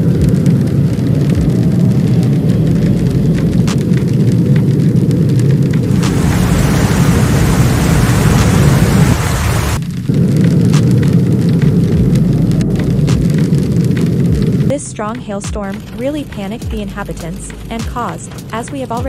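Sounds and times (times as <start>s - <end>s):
rushing hiss of rain and hail: 0.0s - 19.0s
sharp hail strikes: 0.0s - 19.0s
storm wind rumbling on microphone: 0.0s - 19.0s.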